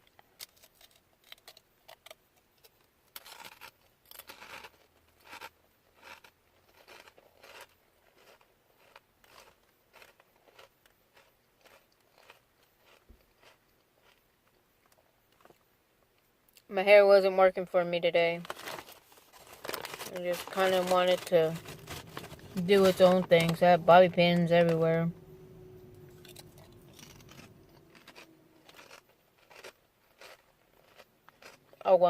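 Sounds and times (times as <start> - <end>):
person chewing potato crisps: 0.0 - 15.6, 18.6 - 32.0.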